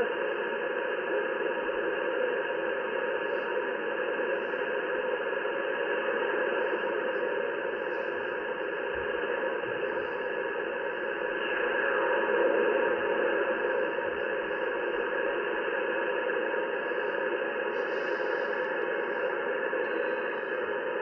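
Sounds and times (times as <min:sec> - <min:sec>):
radio band static hiss: 0:00.0 - 0:21.0.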